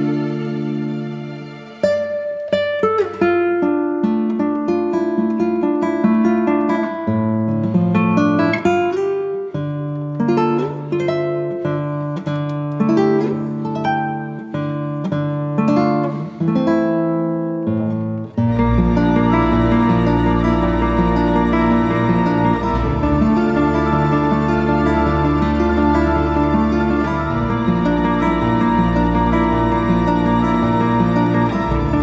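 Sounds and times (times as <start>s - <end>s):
acoustic guitar plucking: 0.0s - 32.0s.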